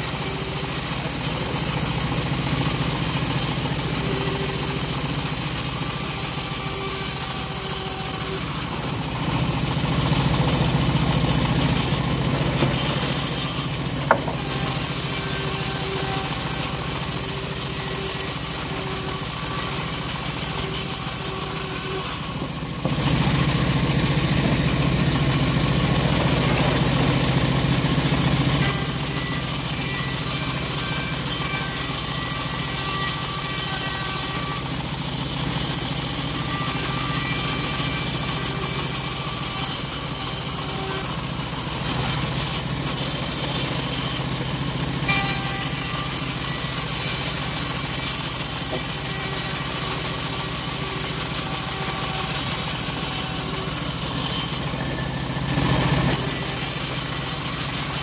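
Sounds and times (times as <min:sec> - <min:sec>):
bandsaw mill ripping wood: 0:00.0 - 0:58.0.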